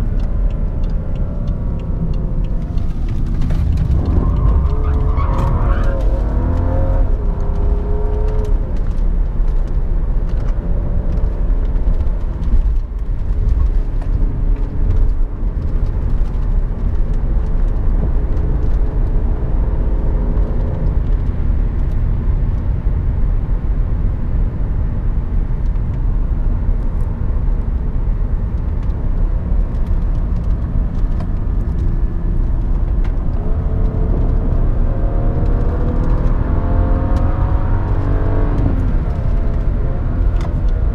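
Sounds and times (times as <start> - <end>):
car engine: 0.0 - 40.9
road and tyre rumble: 0.0 - 40.9.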